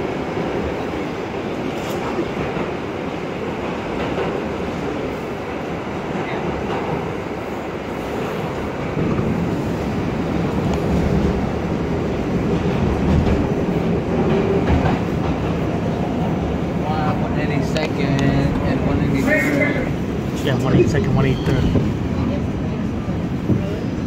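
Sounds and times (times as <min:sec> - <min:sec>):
subway train rumbling in tunnel: 0:00.0 - 0:24.0.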